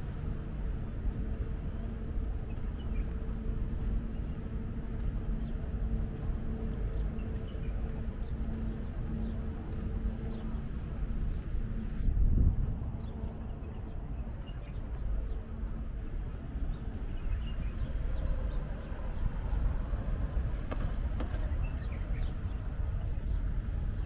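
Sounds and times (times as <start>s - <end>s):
constant hum: 0.0s - 24.0s
steady low rumble: 0.0s - 24.0s.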